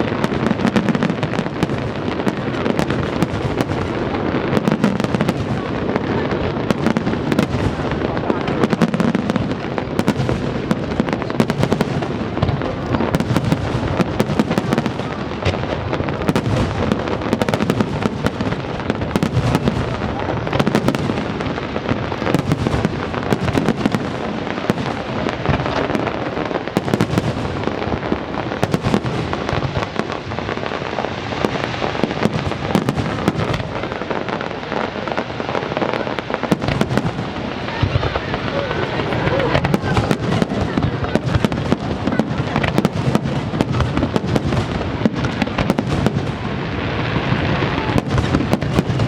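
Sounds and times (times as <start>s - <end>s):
fireworks crackling: 0.0s - 49.0s.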